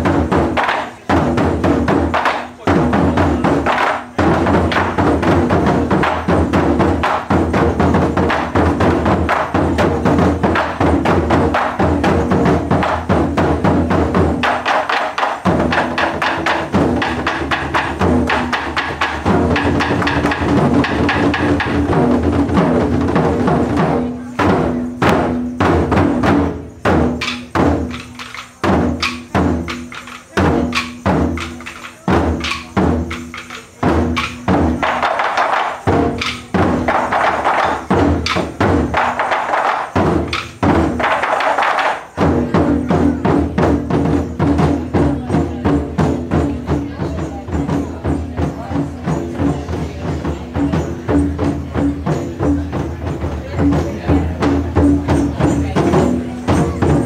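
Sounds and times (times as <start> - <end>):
taiko drums playing: 0.0 - 57.0.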